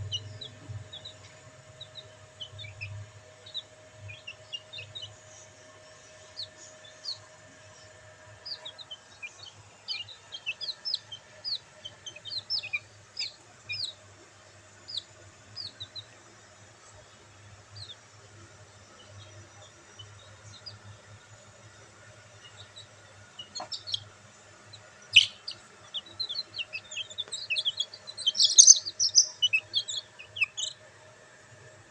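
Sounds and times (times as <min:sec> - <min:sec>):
chicks peeping: 0:00.0 - 0:31.5.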